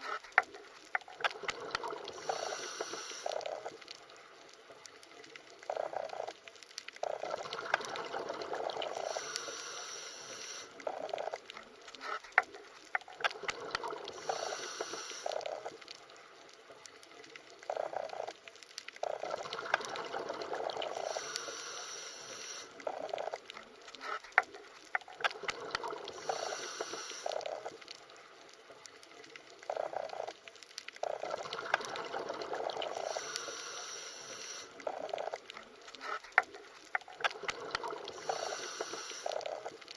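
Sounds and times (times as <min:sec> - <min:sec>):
sharp clicks underwater: 0:00.0 - 0:39.9
underwater bubbling and gurgling: 0:00.0 - 0:39.9.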